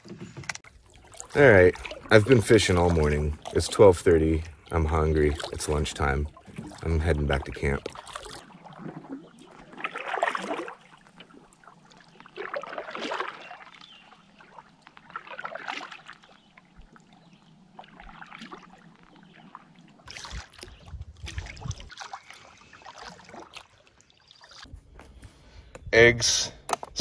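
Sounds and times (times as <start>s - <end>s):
paddle splashing in water: 0.0s - 25.7s.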